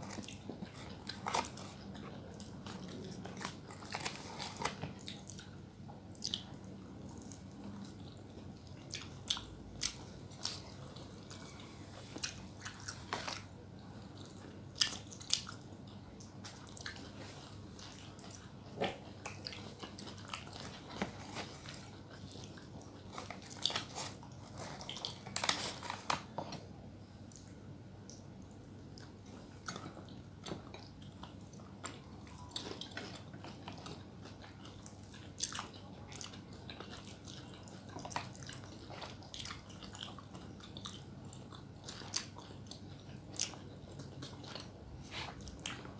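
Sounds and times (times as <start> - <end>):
person chewing food: 0.0 - 26.6, 27.3 - 45.9.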